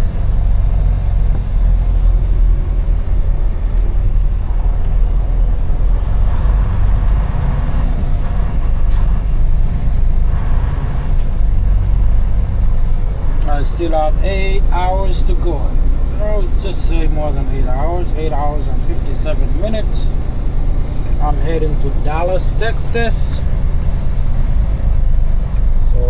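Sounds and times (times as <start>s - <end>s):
truck diesel engine and road noise: 0.0s - 26.0s.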